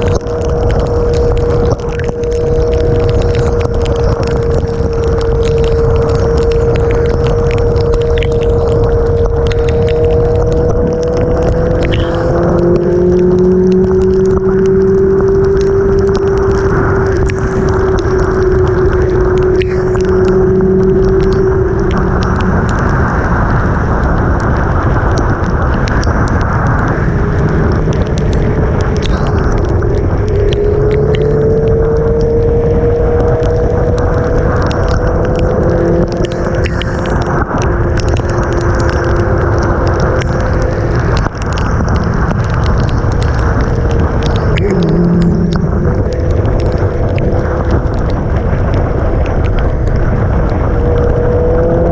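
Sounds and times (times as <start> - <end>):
motorcycle engine: 0.0 - 51.9
raindrops tapping on helmet: 0.0 - 51.9
wind rush on microphone: 0.0 - 51.9.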